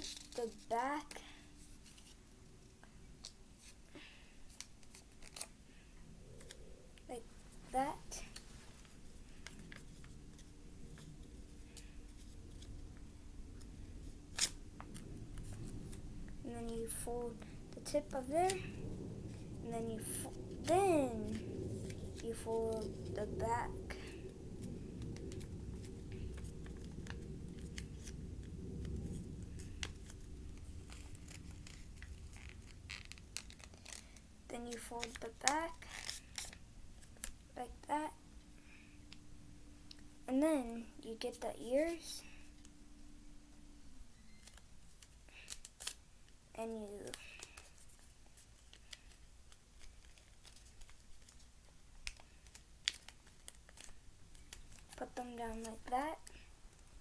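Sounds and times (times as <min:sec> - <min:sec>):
paper crinkling and folding: 0:00.0 - 0:06.6, 0:07.2 - 0:41.0, 0:41.9 - 0:57.0
low steady hum: 0:00.0 - 0:57.0.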